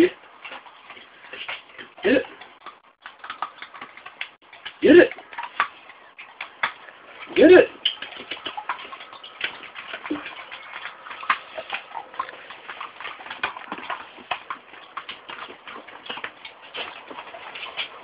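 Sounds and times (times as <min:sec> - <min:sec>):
dog chewing plastic: 0:00.4 - 0:18.0.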